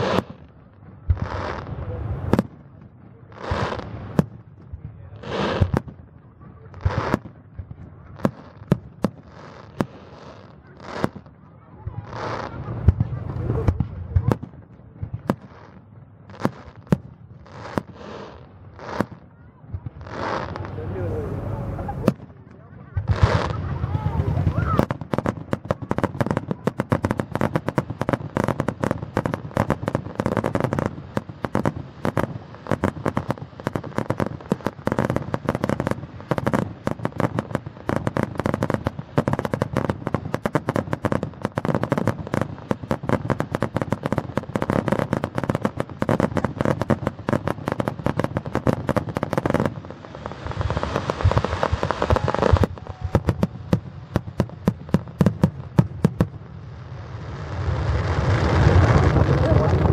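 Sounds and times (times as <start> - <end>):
fireworks bangs and crackles: 0.0 - 59.9
fireworks hissing rush: 0.0 - 59.9.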